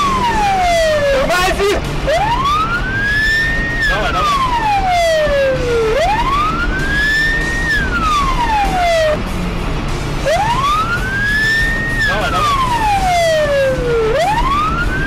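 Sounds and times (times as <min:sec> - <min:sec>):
police siren wailing: 0:00.0 - 0:09.3, 0:10.2 - 0:15.0
engine and road noise: 0:00.0 - 0:15.0.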